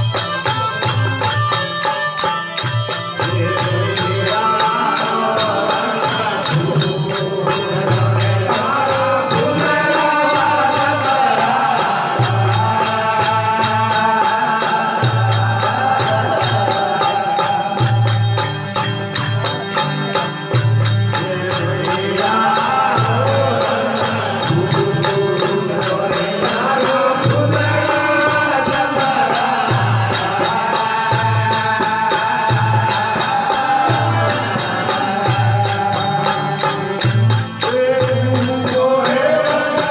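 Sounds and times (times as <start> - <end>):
devotional folk singing: 0.0 - 39.9
jingling percussion: 0.0 - 39.9.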